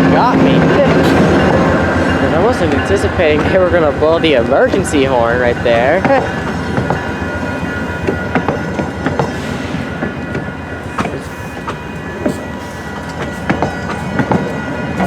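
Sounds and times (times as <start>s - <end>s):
train wheels clattering over rail joints: 0.0s - 15.0s.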